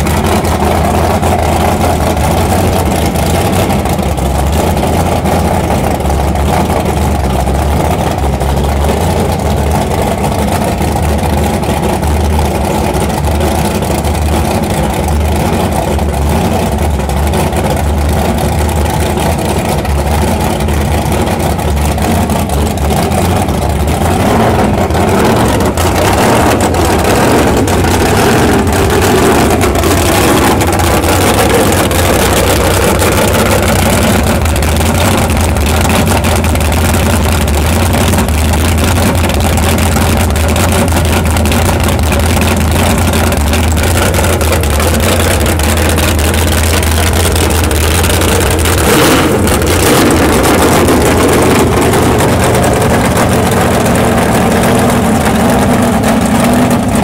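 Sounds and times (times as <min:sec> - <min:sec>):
loud engine running: 0:00.0 - 0:57.0.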